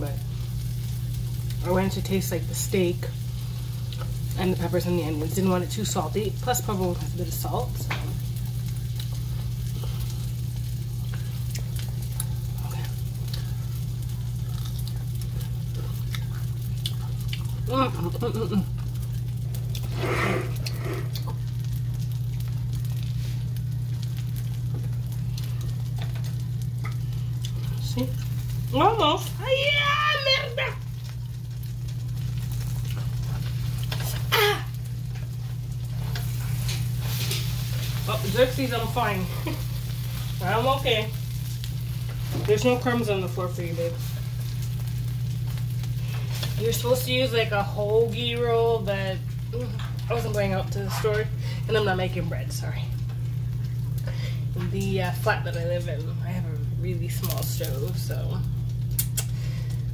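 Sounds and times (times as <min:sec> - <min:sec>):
food sizzling in a frying pan: 0:00.0 - 0:59.9
low hum: 0:00.0 - 0:59.9.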